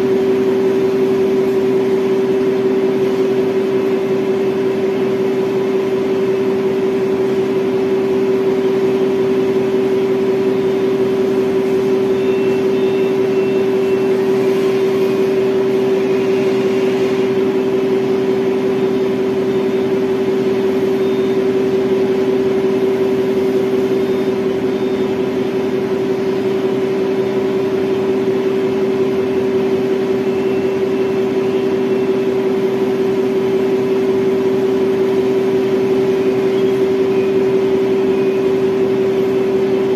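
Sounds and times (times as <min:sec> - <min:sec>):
hydraulic pump motor humming: 0:00.0 - 0:39.9.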